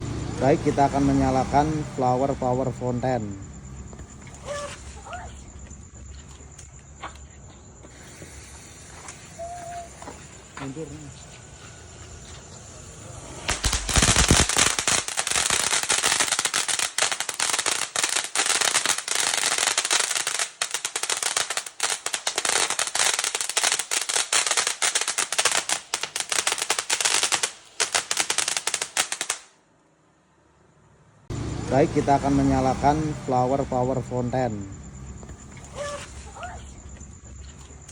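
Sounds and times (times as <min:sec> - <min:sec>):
fountain firework hissing and crackling: 0:00.0 - 0:05.3, 0:07.8 - 0:29.5, 0:31.3 - 0:36.7.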